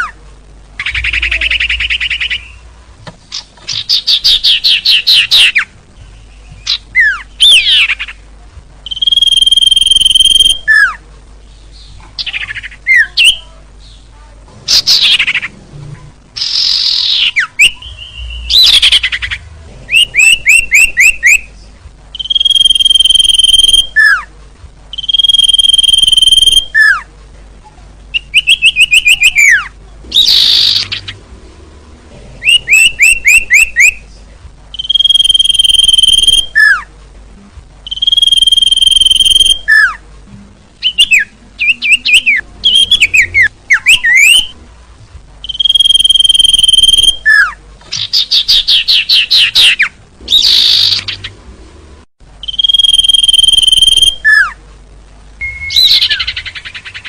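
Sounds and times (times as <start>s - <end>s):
recorded songbird calls: 0.8s - 15.6s, 16.4s - 24.3s, 24.9s - 27.1s, 28.1s - 31.3s, 32.4s - 34.1s, 34.7s - 36.9s, 37.8s - 40.0s, 40.8s - 44.6s, 45.4s - 51.4s, 52.4s - 54.6s, 55.4s - 57.0s.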